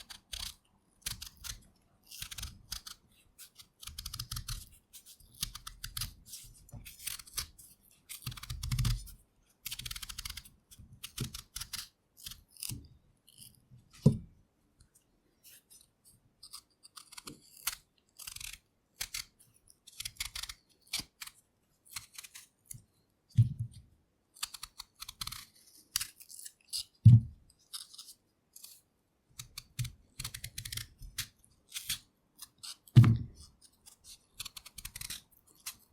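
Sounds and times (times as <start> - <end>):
knife scraping potato skin: 0.0 - 13.6, 15.5 - 22.5, 24.4 - 27.0, 27.6 - 28.8, 29.4 - 35.9.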